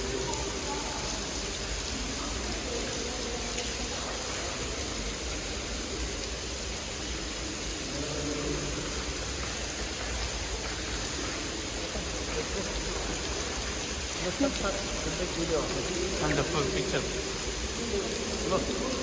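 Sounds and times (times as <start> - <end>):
artificial rain pouring onto floor: 0.0 - 19.0.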